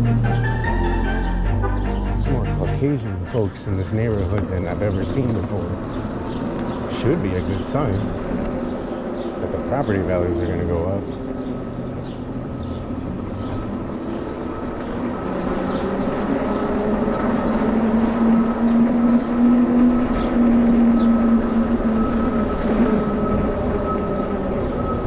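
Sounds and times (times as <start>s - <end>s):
road noise: 0.0s - 25.0s.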